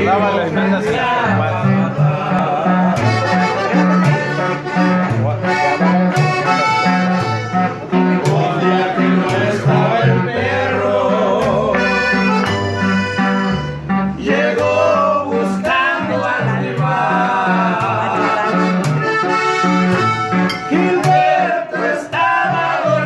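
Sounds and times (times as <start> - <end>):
accordion music: 0.0 - 23.0.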